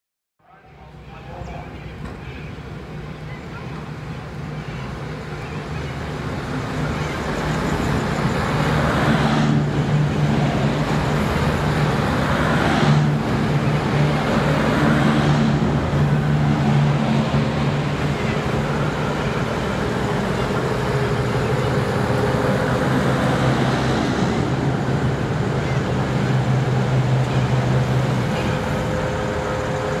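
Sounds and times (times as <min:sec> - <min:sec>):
diesel train engine drone: 0:00.4 - 0:30.0.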